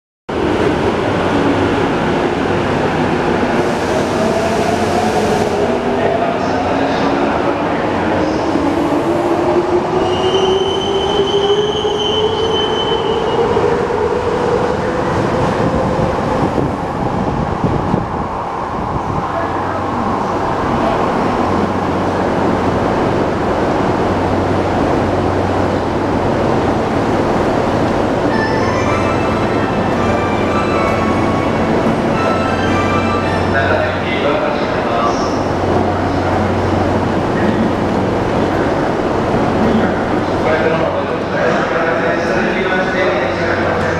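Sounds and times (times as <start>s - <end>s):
subway train rumble: 0.3s - 43.9s.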